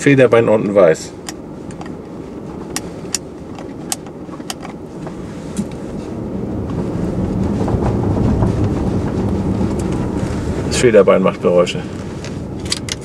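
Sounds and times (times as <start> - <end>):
car tyres rumbling on paving stones: 0.0 - 13.0.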